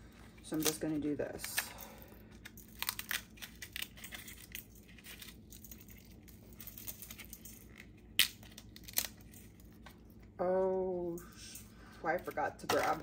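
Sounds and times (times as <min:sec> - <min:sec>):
dried chili pods crackling: 0:00.0 - 0:13.0.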